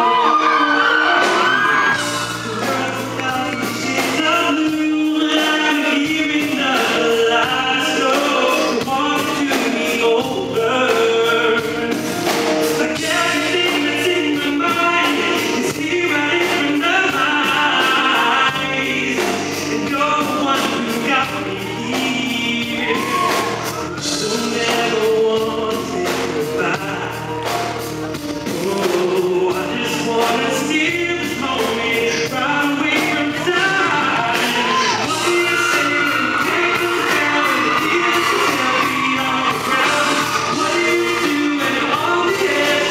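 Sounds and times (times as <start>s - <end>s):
band playing: 0.0s - 42.9s
man singing pop song: 0.0s - 42.9s.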